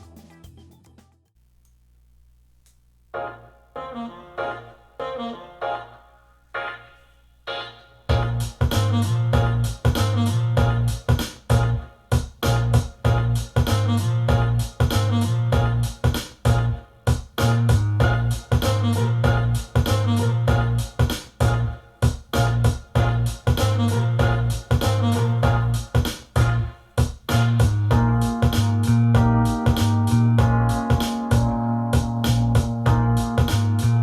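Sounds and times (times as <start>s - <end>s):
keyboard-led instrumental music: 3.1s - 34.0s.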